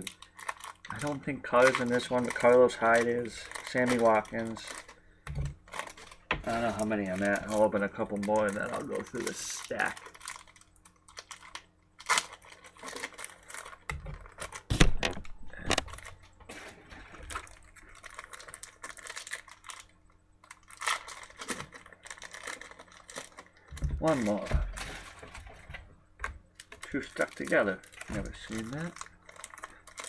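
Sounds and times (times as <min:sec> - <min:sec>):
card packs tearing and rustling: 0:00.0 - 0:25.8, 0:26.6 - 0:30.0.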